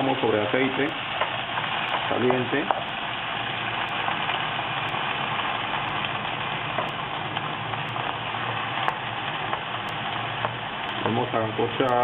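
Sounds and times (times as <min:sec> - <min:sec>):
asparagus sizzling in hot oil: 0:00.0 - 0:12.0
oil popping: 0:00.8 - 0:11.3.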